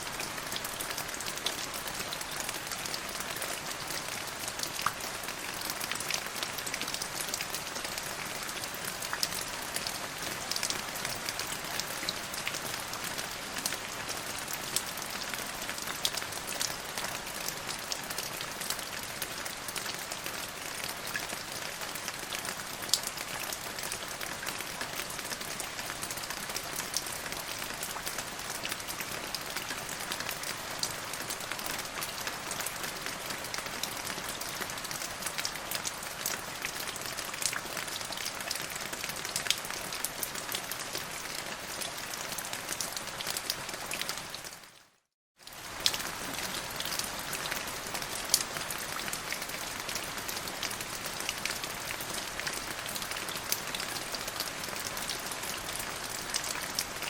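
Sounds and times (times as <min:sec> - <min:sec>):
rain pattering on hard surface: 0:00.0 - 0:44.7, 0:45.4 - 0:57.0.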